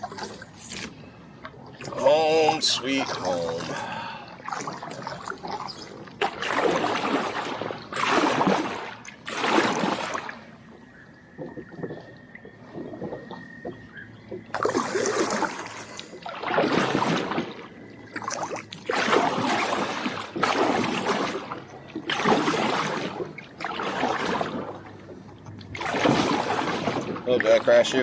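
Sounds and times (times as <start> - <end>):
kayak paddle splashing: 0.0 - 28.0.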